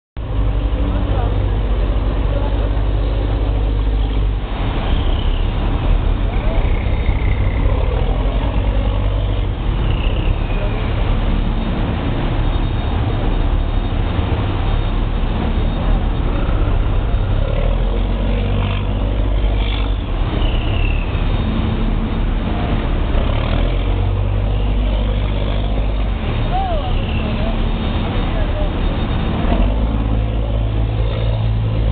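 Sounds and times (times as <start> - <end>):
heavy machinery drone: 0.2 - 31.9
noisy rush: 0.2 - 31.9.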